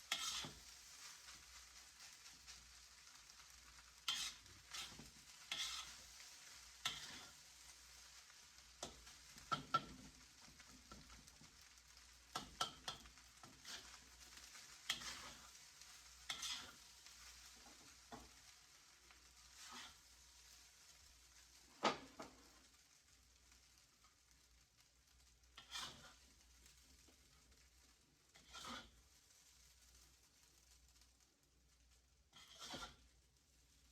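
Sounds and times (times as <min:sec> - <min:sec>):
faint sizzle: 0:00.0 - 0:33.9
scraping strokes in pan: 0:00.0 - 0:33.9.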